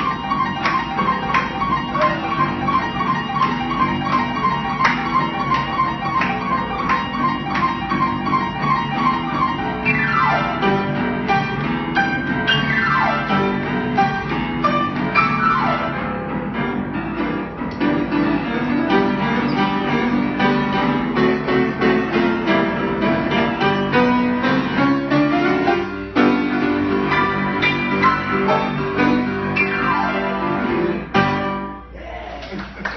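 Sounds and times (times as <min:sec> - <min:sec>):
lively grand piano: 0:00.0 - 0:32.0.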